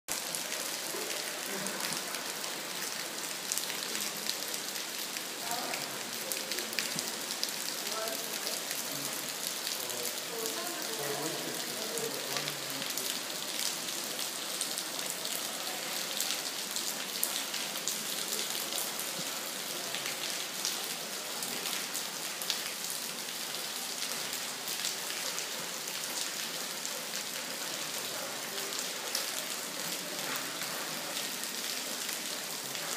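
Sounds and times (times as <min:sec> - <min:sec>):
rain falling: 0:00.1 - 0:32.9.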